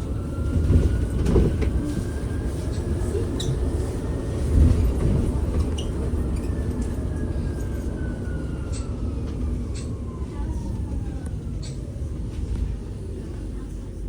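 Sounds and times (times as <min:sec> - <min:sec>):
bus road rumble: 0:00.0 - 0:14.0.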